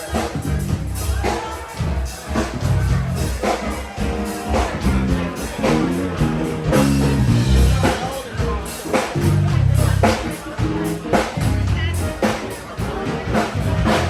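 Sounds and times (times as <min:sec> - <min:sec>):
heavy bass line: 0:00.0 - 0:14.0
live band playing: 0:00.0 - 0:14.0.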